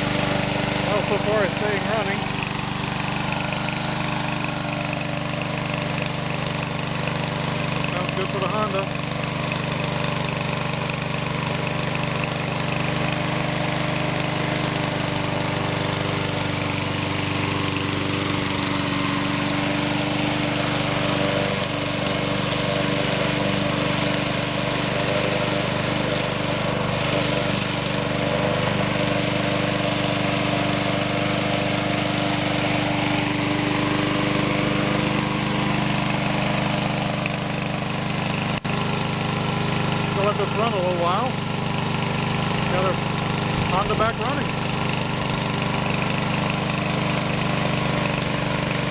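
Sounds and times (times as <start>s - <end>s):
lawn mower engine idling: 0.0s - 48.9s.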